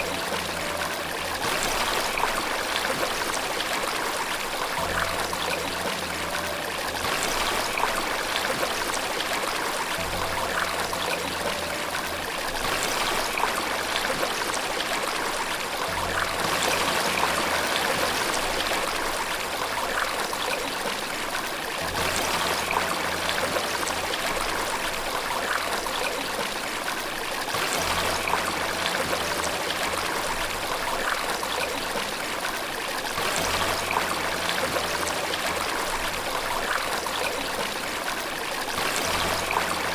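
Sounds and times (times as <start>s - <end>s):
running water splashing: 0.0s - 39.9s.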